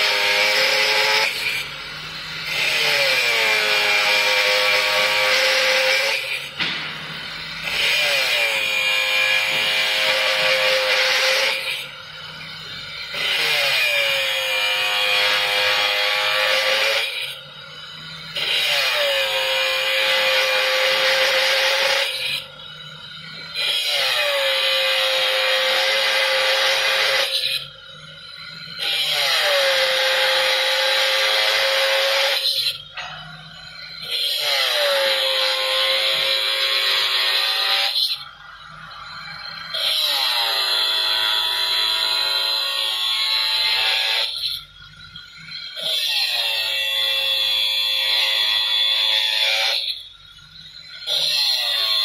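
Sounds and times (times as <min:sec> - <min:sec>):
angle grinder cutting steel rod: 0:00.0 - 0:44.7, 0:45.4 - 0:50.1, 0:50.8 - 0:52.0.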